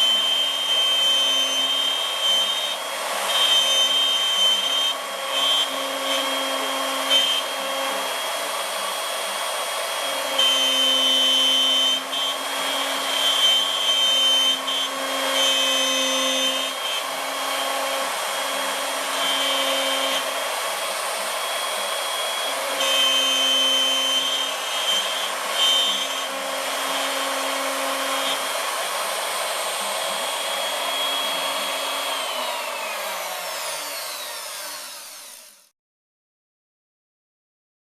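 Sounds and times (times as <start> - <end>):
cnc router spindle whine: 0.0 - 35.7.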